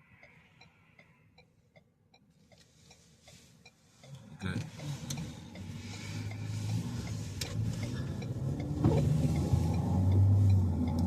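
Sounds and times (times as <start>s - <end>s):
car engine and road noise: 0.0s - 11.0s
faint regular ticking: 0.1s - 11.0s.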